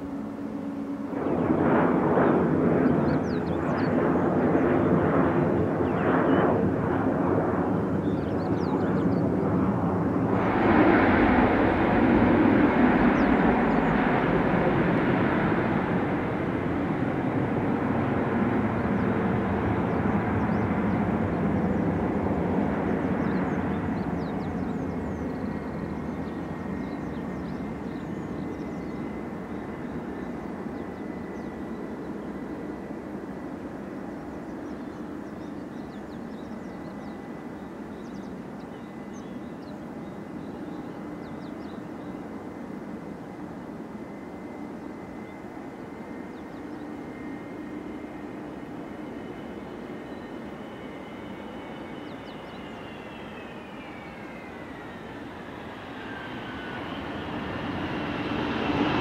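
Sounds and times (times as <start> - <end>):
faint engine whine: 0.0 - 59.0
jet airliner roar: 0.0 - 59.0.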